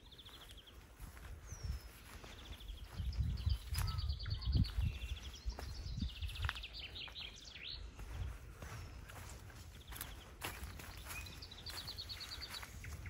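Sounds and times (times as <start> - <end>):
songbird singing trills: 0.0 - 13.0.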